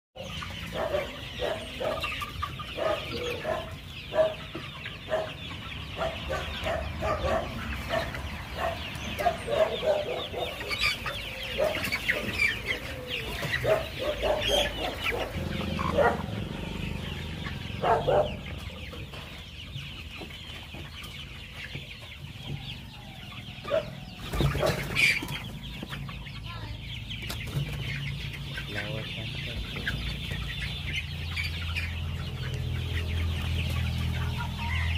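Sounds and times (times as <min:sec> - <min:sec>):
chickens clucking and calling: 0:00.2 - 0:34.9.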